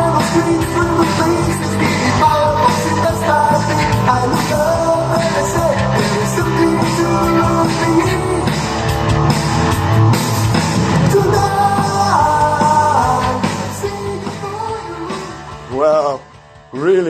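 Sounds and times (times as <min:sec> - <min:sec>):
song with singing from speakers: 0:00.0 - 0:17.0.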